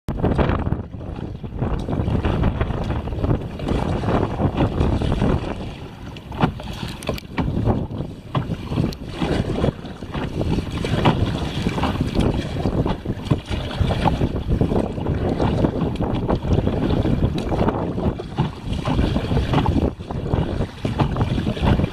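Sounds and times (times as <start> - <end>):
water sloshing around kayak: 0.1 - 21.9
wind buffeting microphone: 0.1 - 21.9.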